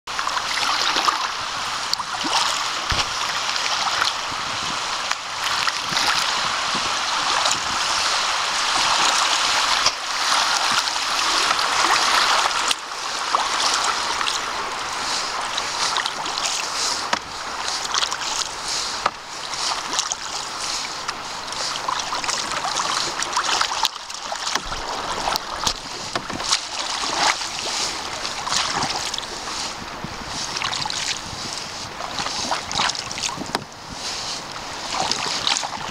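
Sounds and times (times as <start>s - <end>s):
flowing river water: 0.1s - 35.9s
paddle splashing in water: 0.1s - 35.9s.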